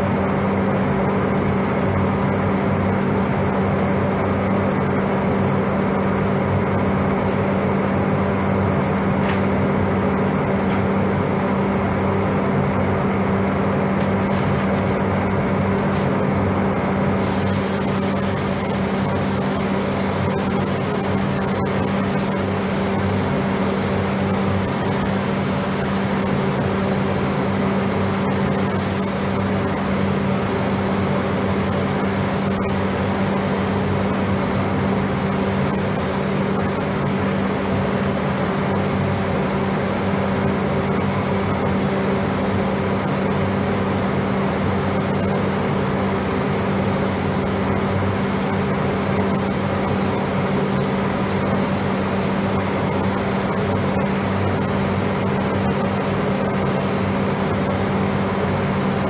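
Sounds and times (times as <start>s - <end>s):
ventilation fans running: 0.0s - 59.0s.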